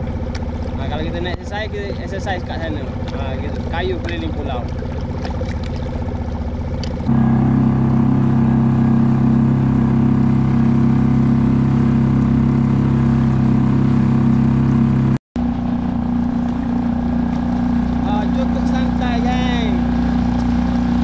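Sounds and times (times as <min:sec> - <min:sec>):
outboard motor droning: 0:00.0 - 0:21.0.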